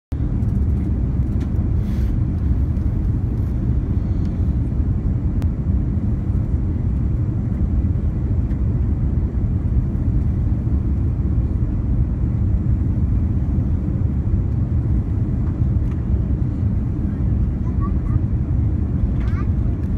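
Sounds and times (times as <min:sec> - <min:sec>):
airplane cabin rumble: 0:00.1 - 0:19.9.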